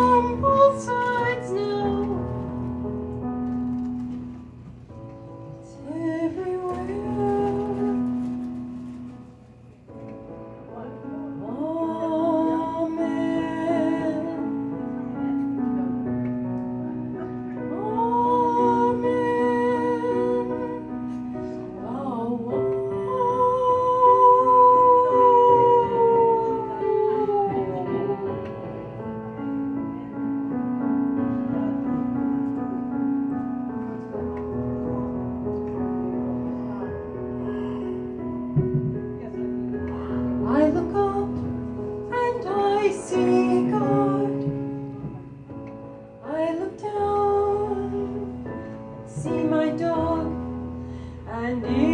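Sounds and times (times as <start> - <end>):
electric keyboard piano sound: 0.0 - 51.9.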